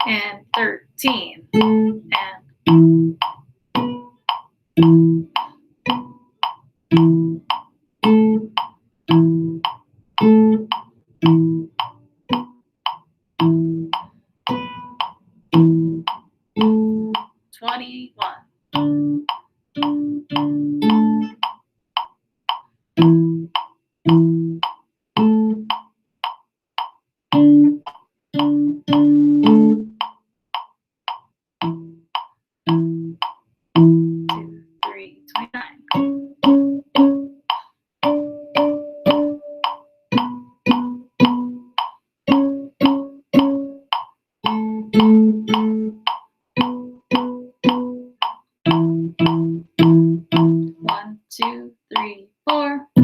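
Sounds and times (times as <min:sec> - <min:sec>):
electric cello notes: 0:00.0 - 0:04.2, 0:04.8 - 0:06.3, 0:06.9 - 0:12.6, 0:13.4 - 0:21.5, 0:23.0 - 0:24.6, 0:27.3 - 0:30.0, 0:32.7 - 0:53.0
metronome clicking: 0:00.0 - 0:53.0.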